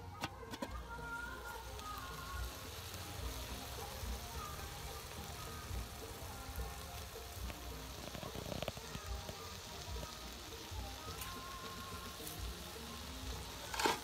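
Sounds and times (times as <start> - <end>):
chicken sizzling in sauce: 0.0 - 14.0.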